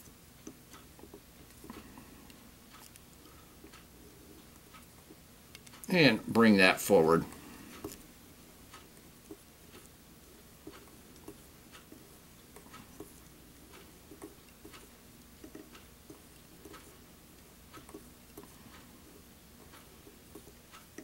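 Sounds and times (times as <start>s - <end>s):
fingers wrapping thread ticks: 0.0s - 5.9s, 8.7s - 21.0s
low steady hiss: 0.0s - 21.0s.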